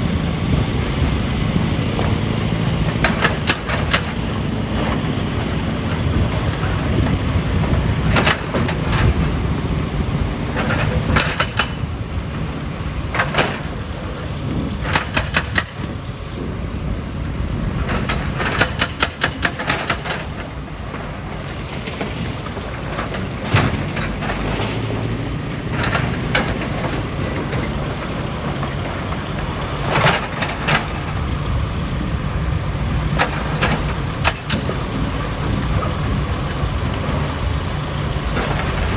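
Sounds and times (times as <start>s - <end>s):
machinery low rumble: 0.0s - 38.9s.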